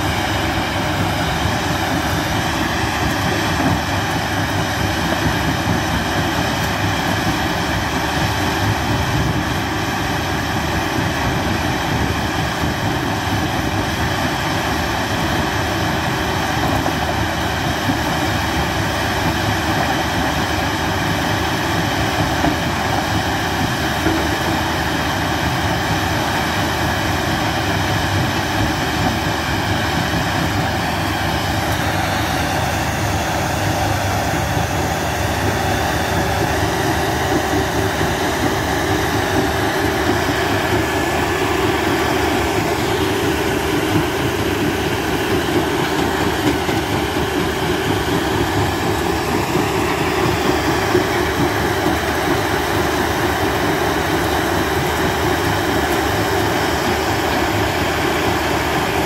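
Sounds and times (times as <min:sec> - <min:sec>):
jaw crusher engine running: 0:00.0 - 0:59.0.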